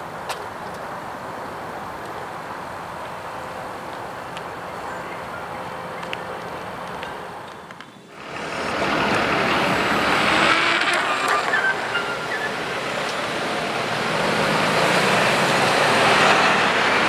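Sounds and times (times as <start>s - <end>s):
bus passing: 0.0s - 17.0s
cars passing: 0.0s - 17.0s.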